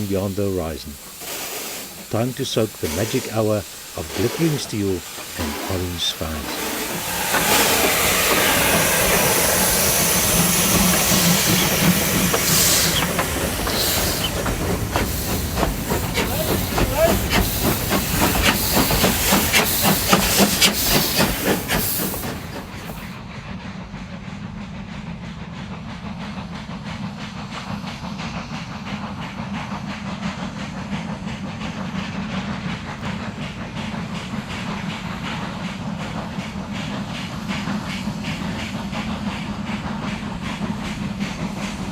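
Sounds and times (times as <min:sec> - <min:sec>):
steam hissing: 0:00.0 - 0:41.9
steam locomotive exhaust beats: 0:00.0 - 0:41.9
train chuffing and running: 0:00.0 - 0:41.9.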